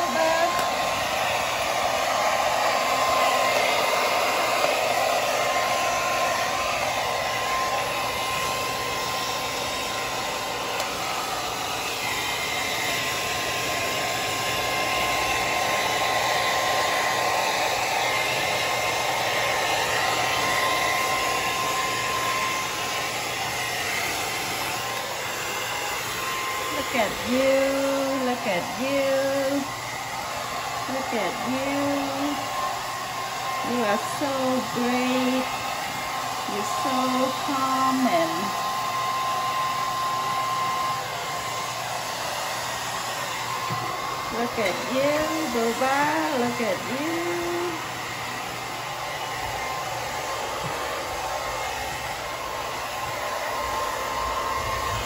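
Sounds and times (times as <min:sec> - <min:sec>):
hot-air brush dryer whining: 0:00.0 - 0:55.0.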